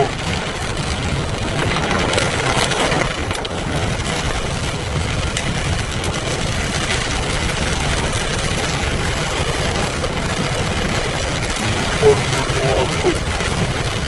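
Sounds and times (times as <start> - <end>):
car engine and road rumble: 0.0 - 14.0
rain and wet tyres hissing: 0.0 - 14.0.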